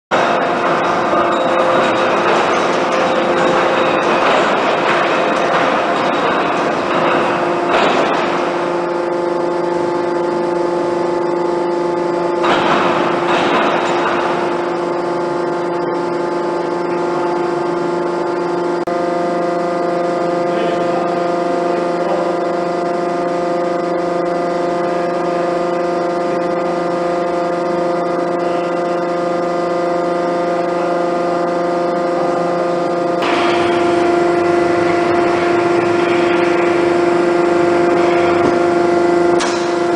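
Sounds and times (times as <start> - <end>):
hydraulic press humming: 0.1 - 39.9.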